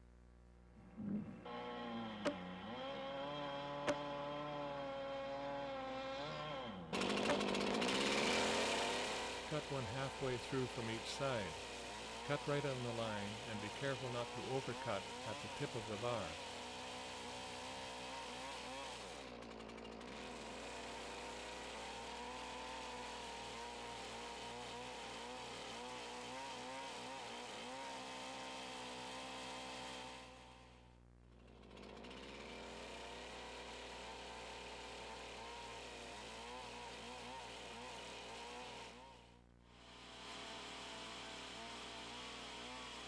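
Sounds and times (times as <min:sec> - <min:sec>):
chainsaw cutting wood: 0:01.0 - 0:43.0.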